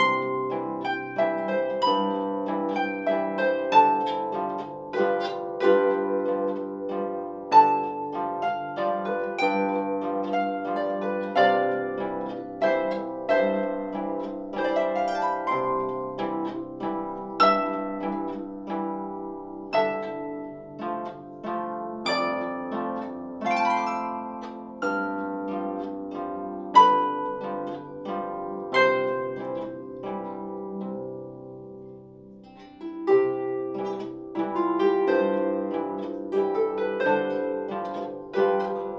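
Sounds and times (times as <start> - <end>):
harp plucked melody: 0.0 - 38.9.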